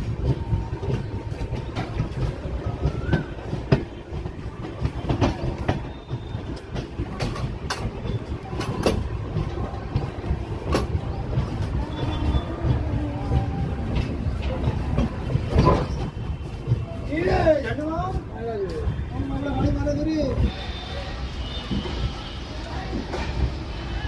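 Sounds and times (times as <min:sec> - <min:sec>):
train rumbling on track: 0:00.0 - 0:24.0
wheels clacking over rail joints: 0:00.0 - 0:24.0.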